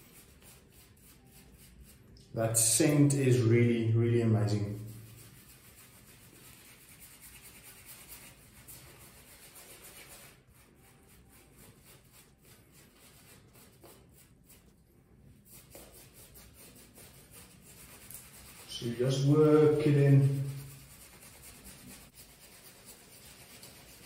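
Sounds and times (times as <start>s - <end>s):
shaving brush rubbing on face: 0.0s - 3.5s, 4.1s - 24.0s.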